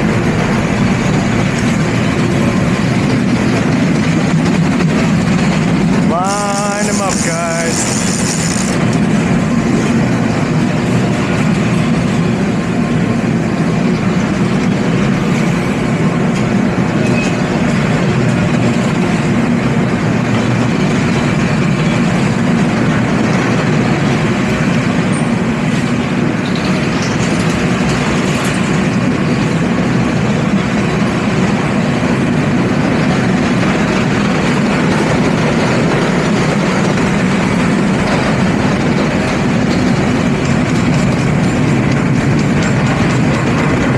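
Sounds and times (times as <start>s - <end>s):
train wheels on rails: 0.0s - 43.9s.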